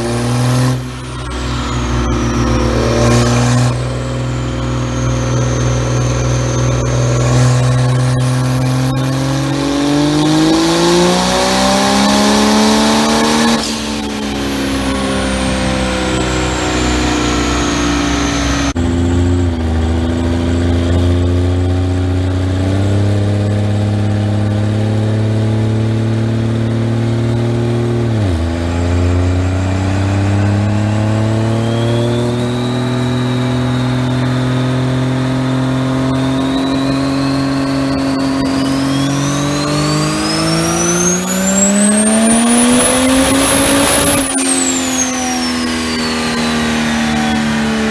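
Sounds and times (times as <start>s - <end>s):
turbo whistle: 0.0s - 18.8s, 26.6s - 47.9s
diesel truck engine revving: 0.0s - 47.9s.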